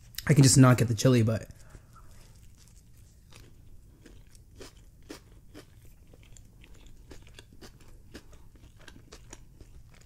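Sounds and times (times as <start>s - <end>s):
person chewing: 1.4s - 10.0s.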